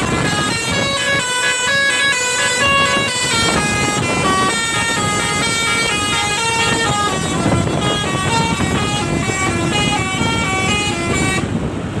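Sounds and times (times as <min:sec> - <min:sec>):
bus air horn playing a tune: 0:00.0 - 0:12.0.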